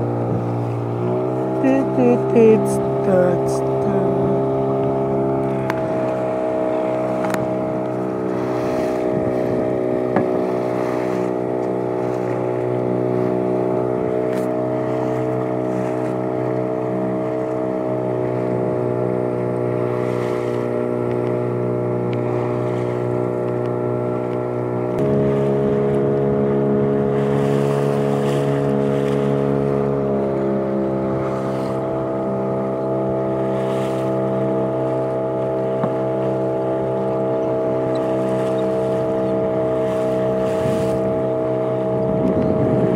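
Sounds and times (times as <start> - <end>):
boat motor running: 0.0 - 42.9.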